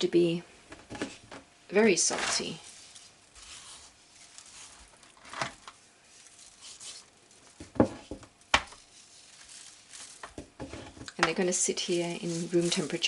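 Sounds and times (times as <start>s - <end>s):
hands rustling: 2.4s - 13.0s.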